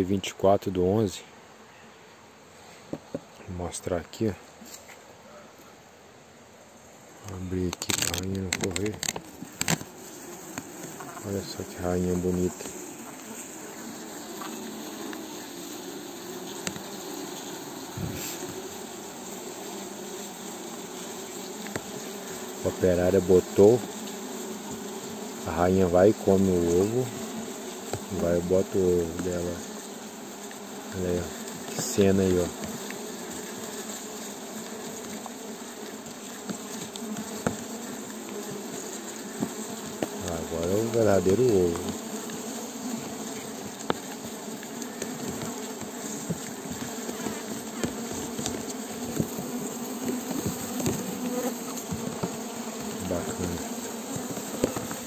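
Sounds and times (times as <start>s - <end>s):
bees buzzing: 6.6s - 55.0s.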